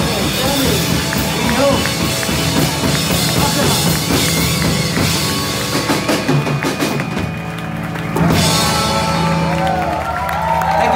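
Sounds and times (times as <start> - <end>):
rock band playing loudly: 0.0 - 10.9.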